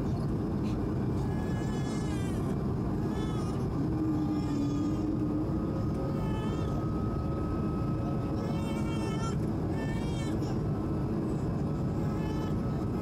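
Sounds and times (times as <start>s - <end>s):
aircraft engine and airflow rumble: 0.0s - 13.0s
faint passenger voices: 0.0s - 13.0s
thin steady whine: 0.0s - 13.0s.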